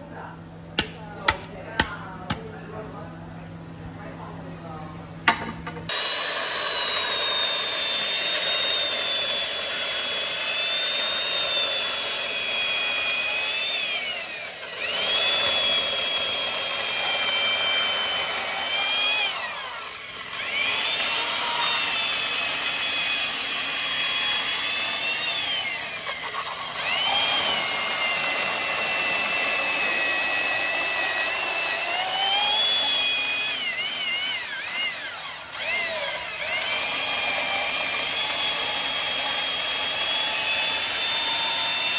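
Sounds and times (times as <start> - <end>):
power tool whining on wood: 5.9 - 41.9.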